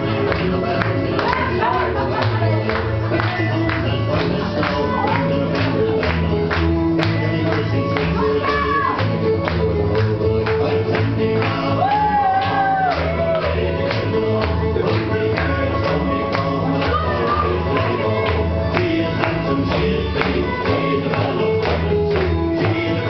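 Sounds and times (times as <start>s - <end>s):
lively music with quick beat: 0.0s - 23.0s.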